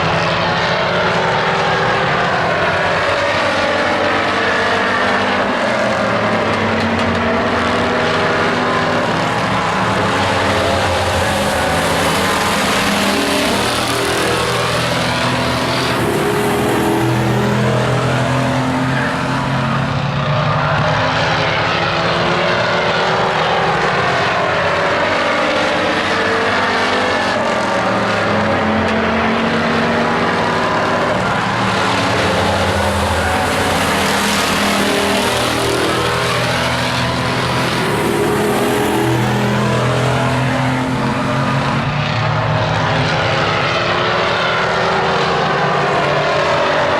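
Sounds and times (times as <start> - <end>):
racing truck engines passing: 0.0 - 46.9.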